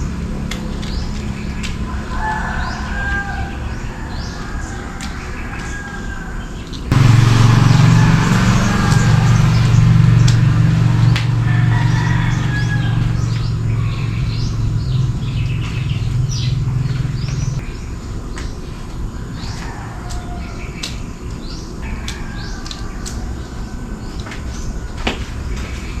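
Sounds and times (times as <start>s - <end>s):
low machine hum: 0.0s - 22.6s
small birds chirping: 0.0s - 26.0s.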